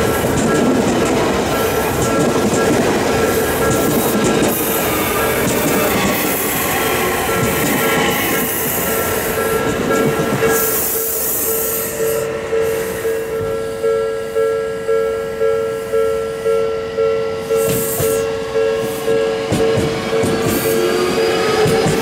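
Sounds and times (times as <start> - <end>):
level crossing warning bell: 0.0 - 21.6
train passing over rails: 0.0 - 22.0.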